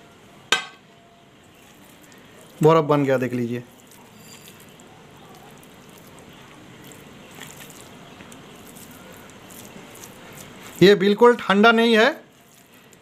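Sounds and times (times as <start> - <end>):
hand scooping wet gel in bowl: 1.5 - 13.0.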